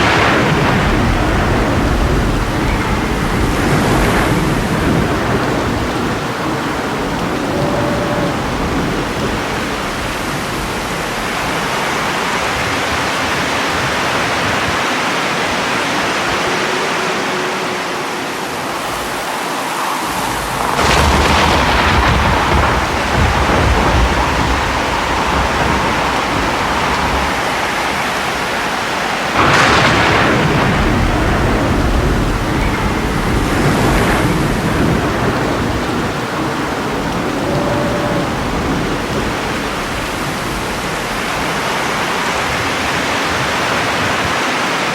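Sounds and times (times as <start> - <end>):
thunder: 0.0 - 16.8, 19.9 - 44.4
heavy rain: 0.0 - 44.9.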